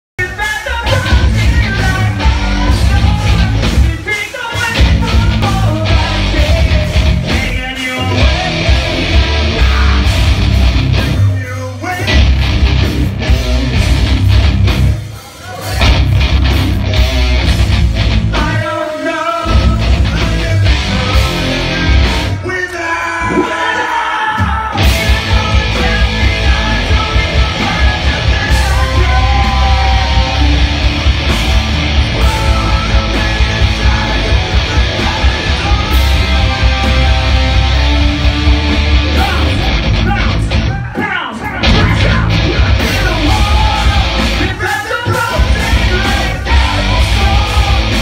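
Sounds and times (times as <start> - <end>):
drums: 0.1 - 48.0
person singing: 0.2 - 10.3, 18.3 - 38.3, 39.0 - 48.0
bass guitar: 0.2 - 18.8, 19.4 - 22.5, 24.4 - 48.0
distorted electric guitars: 0.2 - 48.0
live metal band playing: 0.2 - 48.0.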